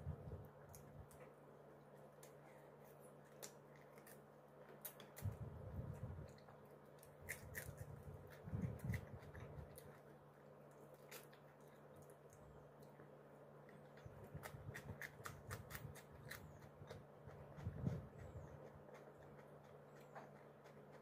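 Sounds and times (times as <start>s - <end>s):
steady low hum: 0.0s - 21.0s
person chewing: 2.2s - 21.0s.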